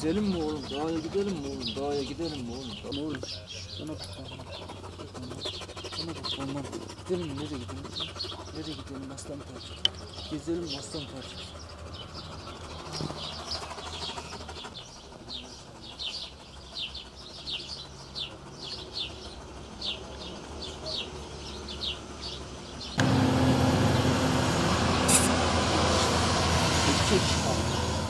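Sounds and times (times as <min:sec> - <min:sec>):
small birds chirping: 0:00.0 - 0:23.1.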